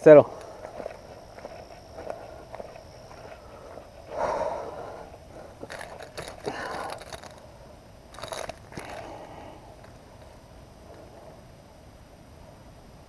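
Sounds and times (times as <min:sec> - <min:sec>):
rustling in grass and dry leaves: 0:00.3 - 0:11.4.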